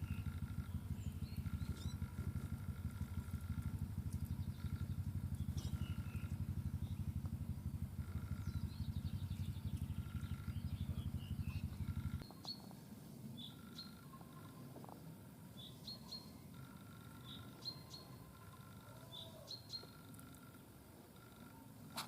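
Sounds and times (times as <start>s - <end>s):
engine running with low throb: 0.0s - 22.0s
songbirds twittering: 0.0s - 22.0s.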